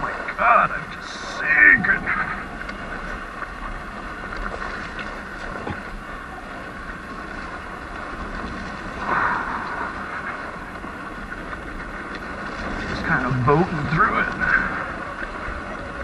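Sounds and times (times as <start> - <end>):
wind on microphone: 0.8 - 16.0.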